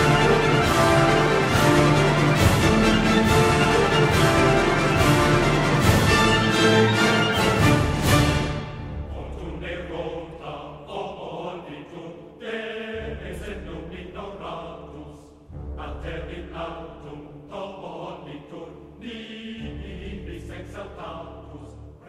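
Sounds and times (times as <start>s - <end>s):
choir chanting: 0.0s - 22.0s.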